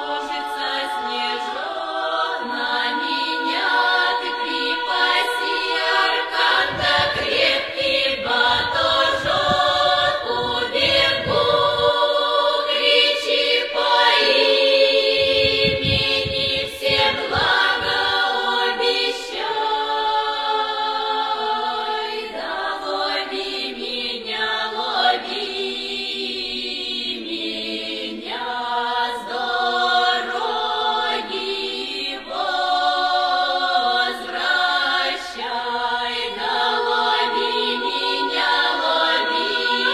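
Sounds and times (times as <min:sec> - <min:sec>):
choir-like singing: 0:00.0 - 0:39.9.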